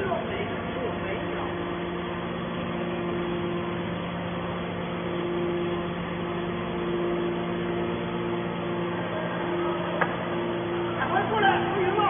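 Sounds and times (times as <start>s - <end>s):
hydraulic baler motor humming: 0.0s - 12.0s.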